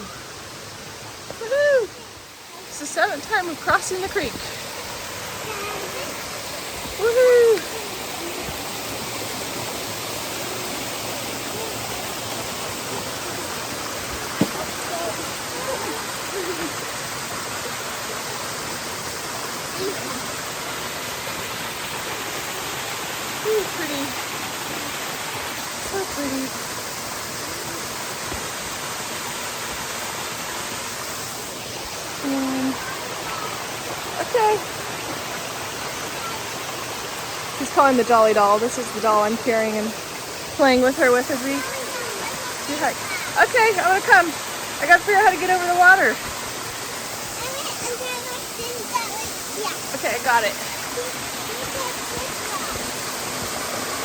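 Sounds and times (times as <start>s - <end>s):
creek rushing over rocks: 0.0s - 54.0s.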